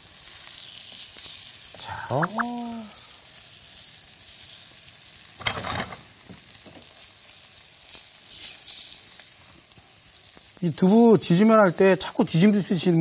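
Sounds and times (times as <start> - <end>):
oil crackle: 0.0 - 12.4
tofu sizzling in frying pan: 0.0 - 13.0.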